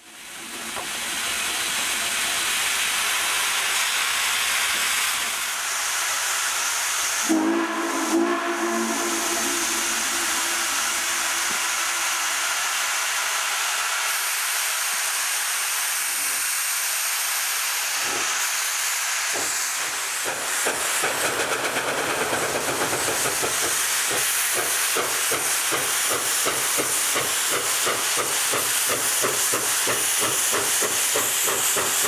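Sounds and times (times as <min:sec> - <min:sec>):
steam locomotive hiss: 0:00.0 - 0:32.0
steam locomotive exhaust chuffs: 0:00.2 - 0:32.0.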